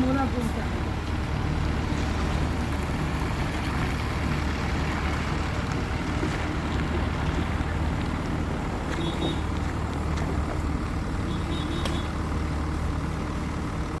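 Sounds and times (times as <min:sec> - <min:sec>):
diesel construction machinery running: 0:00.0 - 0:14.0.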